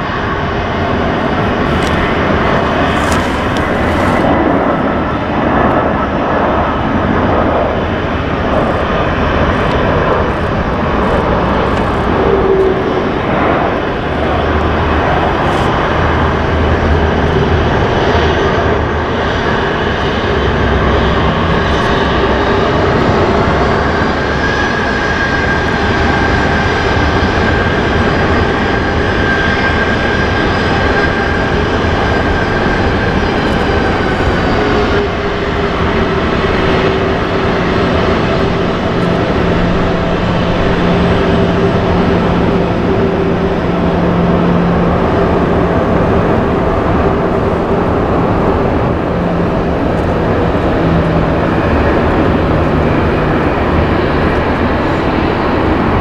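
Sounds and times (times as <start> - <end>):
jet engine roar: 0.0 - 56.0
jet engine whine: 0.0 - 56.0.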